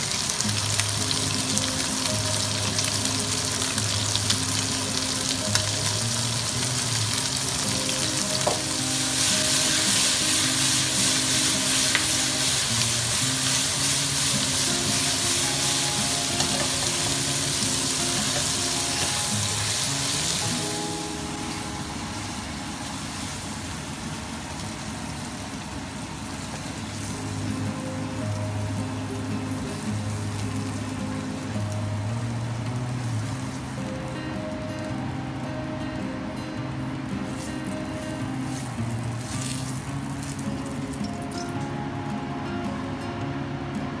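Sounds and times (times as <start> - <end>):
food sizzling in a wok: 0.0 - 35.0, 37.1 - 41.7.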